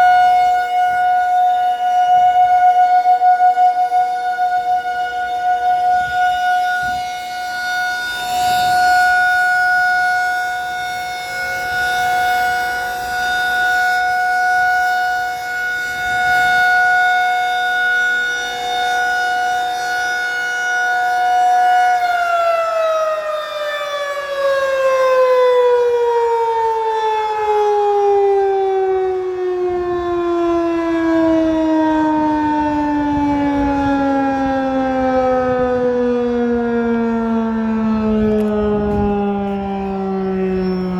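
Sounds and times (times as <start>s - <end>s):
warning siren winding down: 0.0s - 40.9s.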